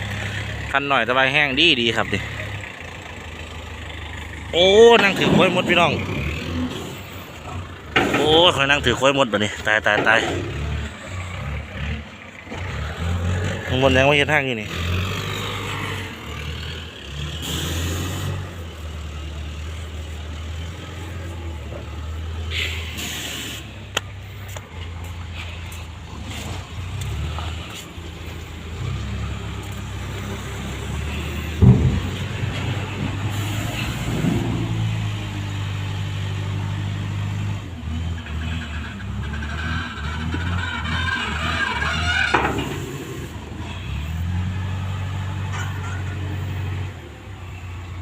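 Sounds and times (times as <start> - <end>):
loader engine running: 0.0 - 48.0.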